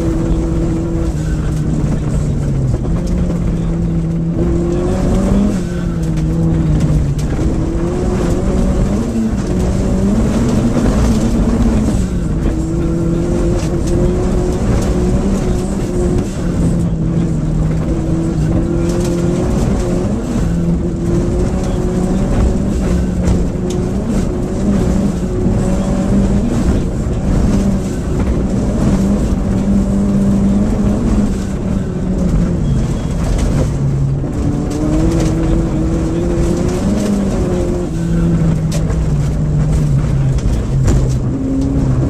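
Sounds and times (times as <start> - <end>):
rally car engine running hard: 0.0 - 42.0
road and tyre noise: 0.0 - 42.0.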